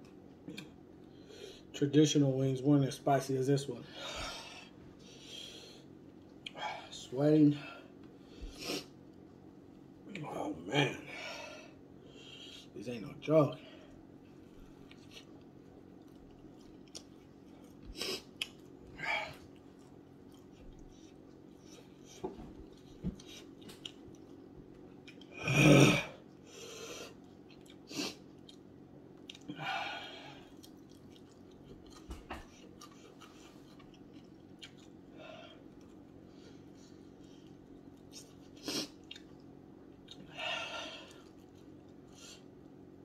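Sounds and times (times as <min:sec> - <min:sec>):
man chewing food: 0:00.0 - 0:01.7, 0:03.9 - 0:06.6, 0:07.9 - 0:10.2, 0:13.6 - 0:43.0
faint steady hum: 0:00.0 - 0:43.0.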